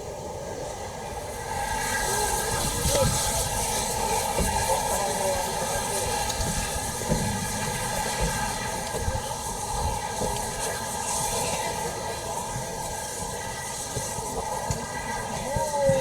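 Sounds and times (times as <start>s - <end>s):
train running: 0.0s - 16.0s.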